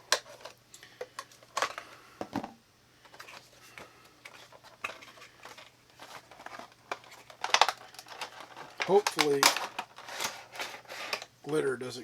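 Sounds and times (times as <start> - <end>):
cardboard and plastic packaging rustling: 0.0 - 11.7.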